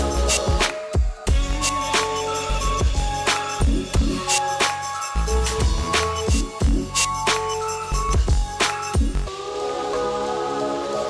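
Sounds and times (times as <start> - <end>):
electronic music with bass kicks: 0.0 - 9.3.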